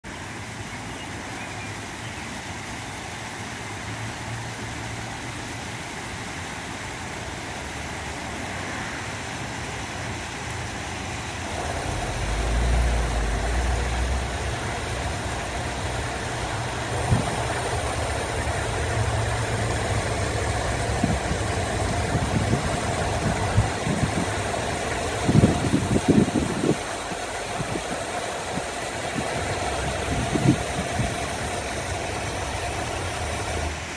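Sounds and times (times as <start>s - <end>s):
water spilling down rocks: 1.8s - 33.9s
low steady rumble: 3.6s - 33.9s.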